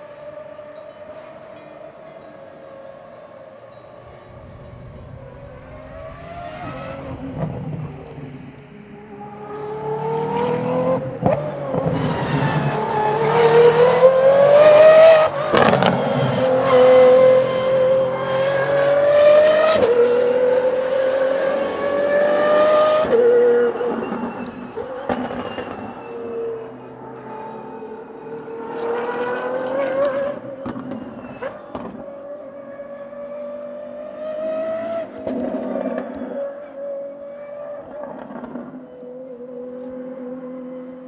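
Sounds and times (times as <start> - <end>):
car engine accelerating through gears: 0.0 - 41.0.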